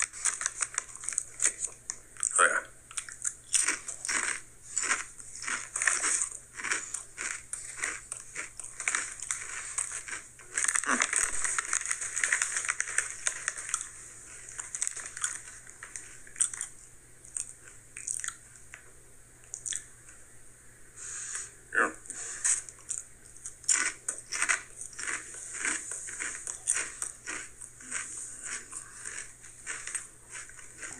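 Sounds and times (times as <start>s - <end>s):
chips crunching when chewed: 0.0s - 18.8s, 19.4s - 19.9s, 22.4s - 30.9s.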